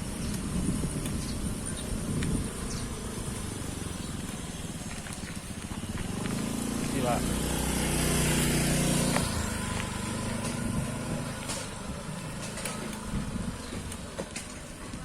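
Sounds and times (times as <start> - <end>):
bicycle rattling: 0.0 - 15.0
wind and tyre rumble: 0.0 - 15.0.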